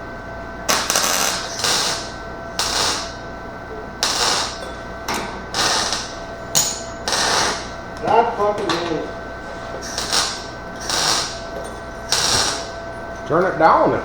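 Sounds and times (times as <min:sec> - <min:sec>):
welder arc crackling: 0:00.6 - 0:14.0.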